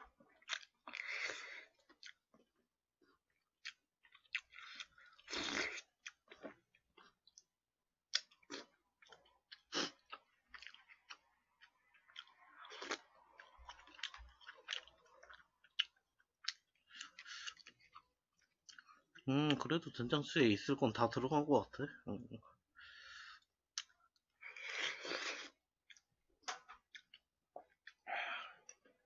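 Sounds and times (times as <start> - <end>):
person chewing and eating: 0.1 - 19.9, 22.8 - 29.0.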